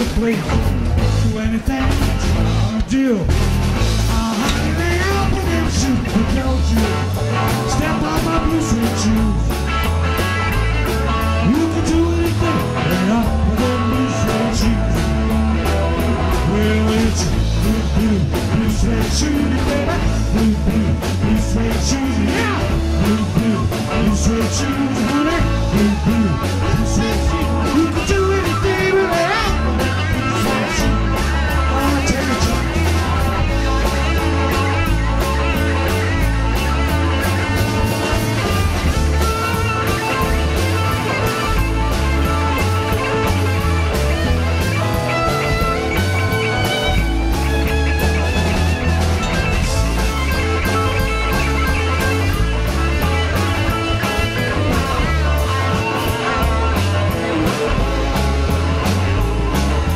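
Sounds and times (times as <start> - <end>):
rock band playing live: 0.0 - 59.9
lead guitar bending pitch: 0.6 - 59.9.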